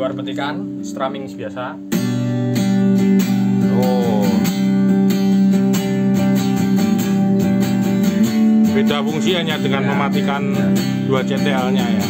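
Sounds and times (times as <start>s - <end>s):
electric guitar strummed chords: 0.0s - 12.0s.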